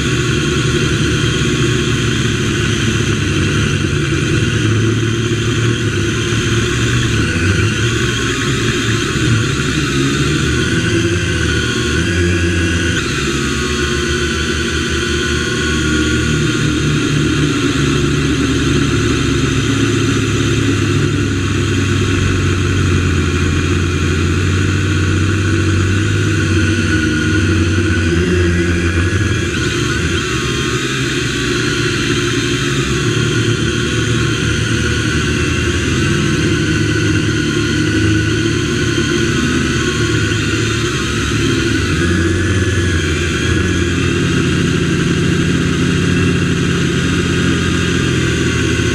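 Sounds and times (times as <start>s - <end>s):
drone propellers buzzing: 0.0s - 48.9s.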